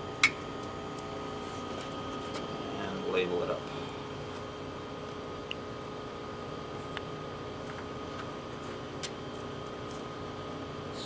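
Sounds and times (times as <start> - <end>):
lab equipment hum: 0.0 - 11.0.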